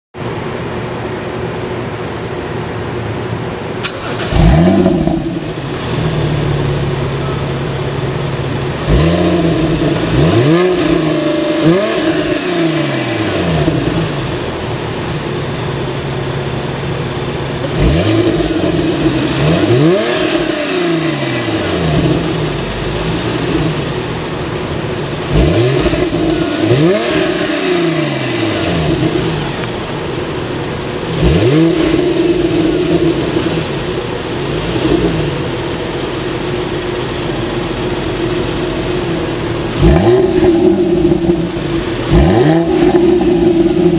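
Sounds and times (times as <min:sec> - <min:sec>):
car engine idling: 0:00.2 - 0:43.9
car engine revving: 0:03.8 - 0:43.9.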